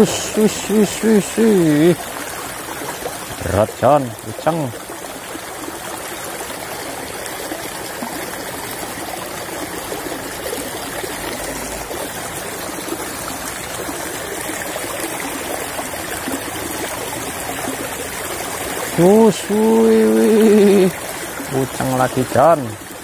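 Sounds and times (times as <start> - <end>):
water flowing and rippling: 0.0 - 23.0.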